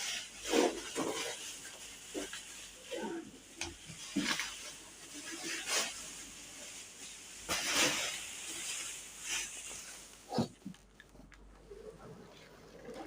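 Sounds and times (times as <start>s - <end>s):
hissing rustling noise: 0.0s - 13.0s.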